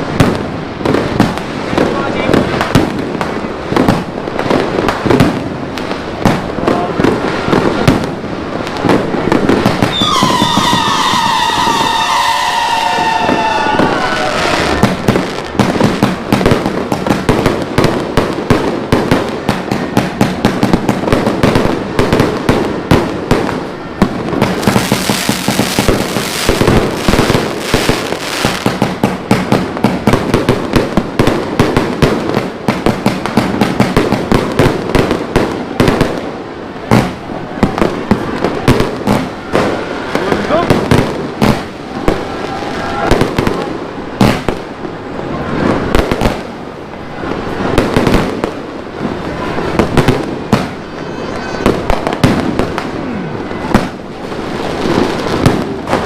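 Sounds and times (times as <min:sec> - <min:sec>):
fireworks bangs and bursts: 0:00.0 - 0:56.0
fireworks whistling: 0:00.0 - 0:56.0.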